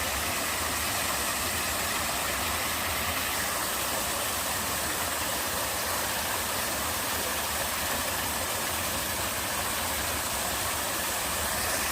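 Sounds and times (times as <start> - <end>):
waterfall pouring into pool: 0.0 - 11.9.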